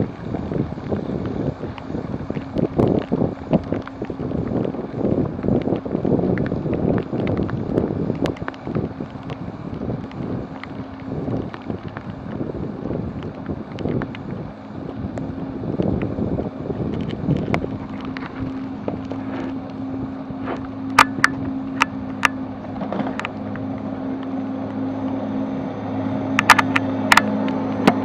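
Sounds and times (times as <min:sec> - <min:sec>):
heavy rain: 0:00.0 - 0:28.0
vehicle engine humming: 0:00.0 - 0:28.0
wind buffeting microphone: 0:00.0 - 0:28.0.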